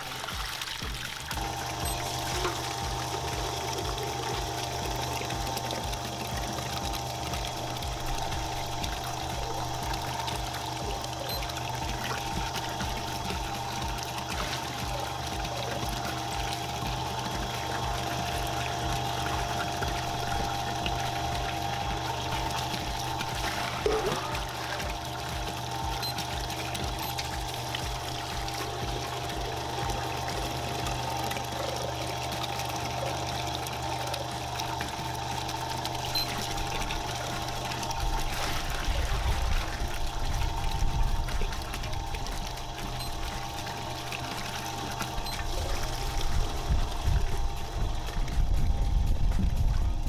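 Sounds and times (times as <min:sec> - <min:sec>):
pump humming: 0:00.0 - 0:50.0
water pouring into tank: 0:00.0 - 0:50.0.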